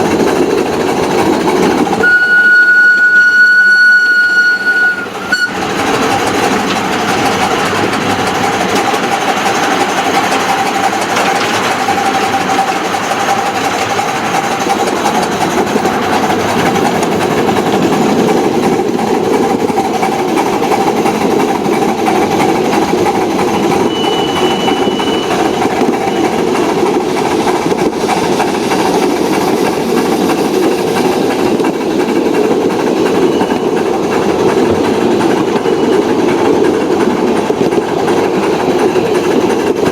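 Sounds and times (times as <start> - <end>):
model train rolling rumble: 0.0 - 39.9
train motor hum: 0.0 - 39.9.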